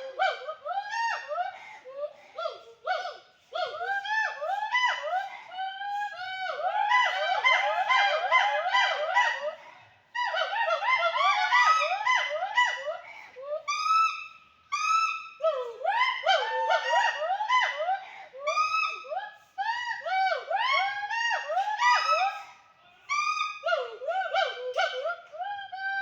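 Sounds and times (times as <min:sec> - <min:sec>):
animals whooping: 0:00.0 - 0:09.6, 0:10.2 - 0:26.0.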